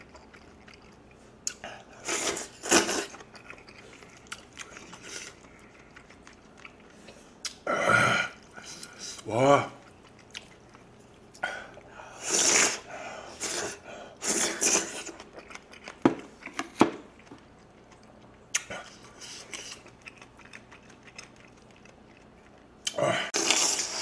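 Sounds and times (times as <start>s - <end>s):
noodles slurped and chewed: 0.0s - 7.6s, 8.3s - 24.0s.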